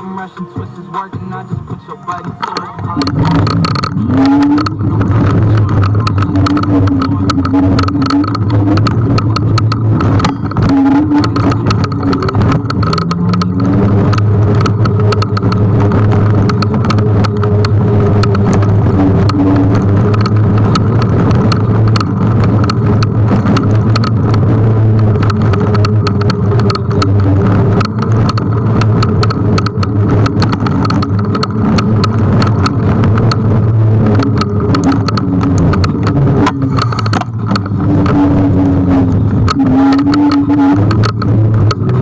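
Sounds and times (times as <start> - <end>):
electric scooter rumble and hum: 0.0 - 42.0
sharp clicks and rattles: 0.0 - 42.0.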